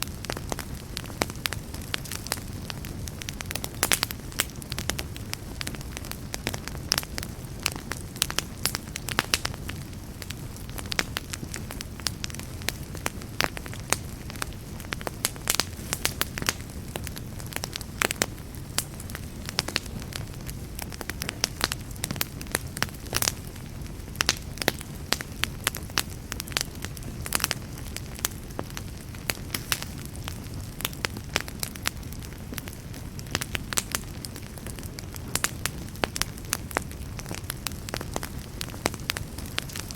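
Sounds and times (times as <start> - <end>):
campfire crackling and popping: 0.0 - 39.9
campfire flames rumbling: 0.0 - 39.9.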